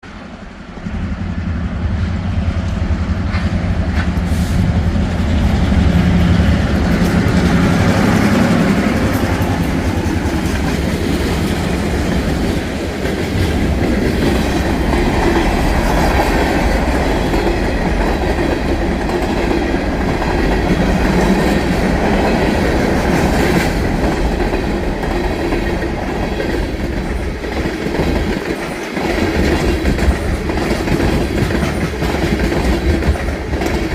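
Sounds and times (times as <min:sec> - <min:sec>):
diesel locomotive engine rumble: 0:00.0 - 0:33.9
train wheels clickety-clack: 0:01.1 - 0:33.9.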